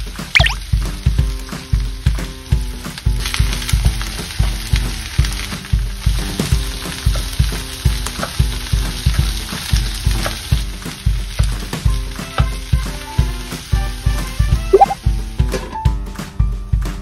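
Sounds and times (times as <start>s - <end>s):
vegetables sizzling in a frying pan: 0.0s - 16.9s
background music with steady beat: 0.0s - 17.0s.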